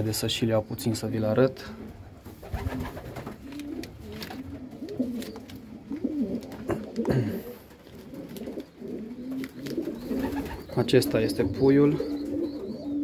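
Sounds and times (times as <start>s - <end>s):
pigeons cooing: 1.6s - 13.0s.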